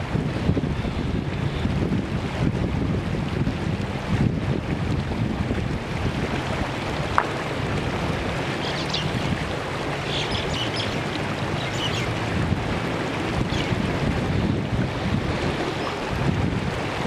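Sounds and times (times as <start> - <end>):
rocky stream running: 0.0 - 17.0
wind rumbling on microphone: 0.0 - 17.0
splashes of wading: 3.3 - 17.0.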